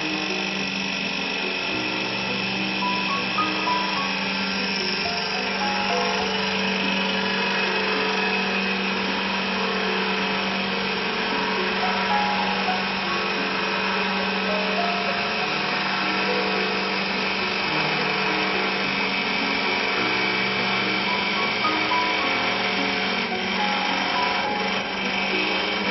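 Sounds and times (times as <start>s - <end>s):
cutters shaving spinning wood: 0.0s - 25.9s
wood lathe humming: 0.0s - 25.9s.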